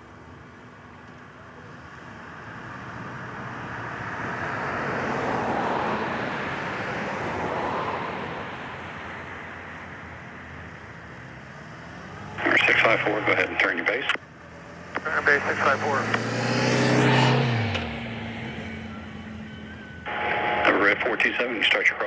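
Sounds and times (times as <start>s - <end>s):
aircraft engine passing: 0.0s - 21.7s.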